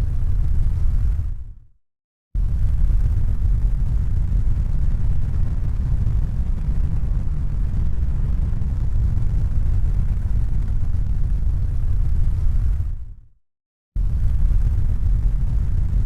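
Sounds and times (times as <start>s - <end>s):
deep rumble: 0.0s - 1.6s, 2.4s - 13.2s, 14.0s - 16.0s.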